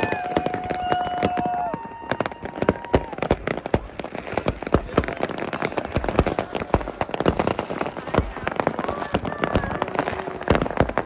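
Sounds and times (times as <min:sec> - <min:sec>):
fireworks bangs and pops: 0:00.0 - 0:11.0
whistling firework: 0:00.0 - 0:11.0.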